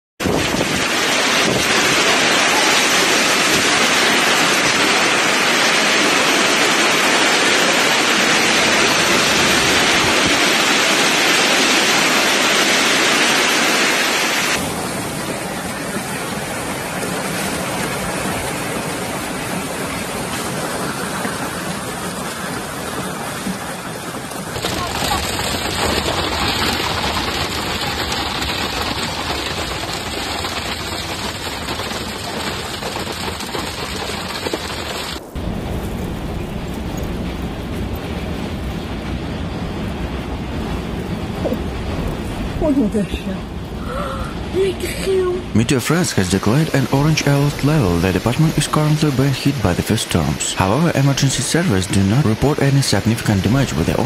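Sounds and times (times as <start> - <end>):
hail and rain pouring: 0.2 - 54.0.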